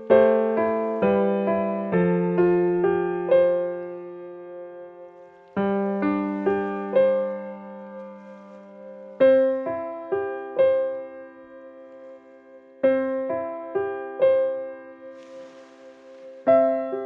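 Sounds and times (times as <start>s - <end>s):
slow gentle solo piano: 0.0s - 17.0s.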